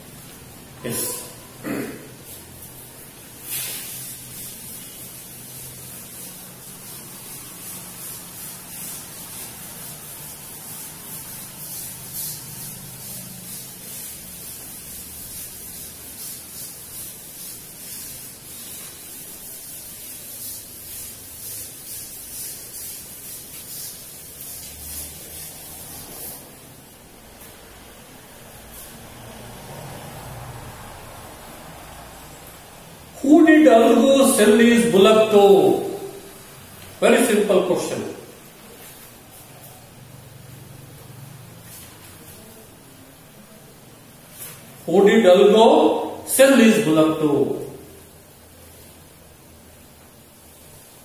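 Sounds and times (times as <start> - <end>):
duster rubbing chalkboard: 0.0 - 31.7, 33.2 - 51.0.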